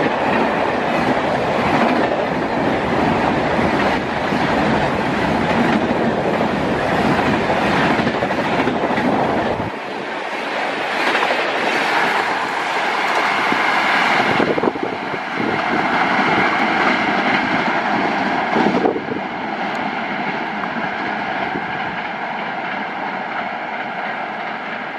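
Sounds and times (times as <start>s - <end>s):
train rushing past: 0.0s - 24.9s.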